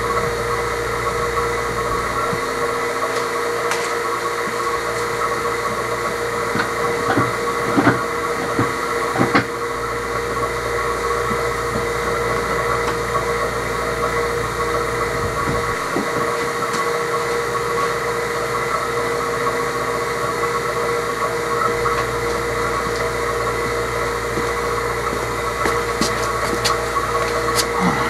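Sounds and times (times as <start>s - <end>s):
vacuum pump running: 0.0s - 28.0s.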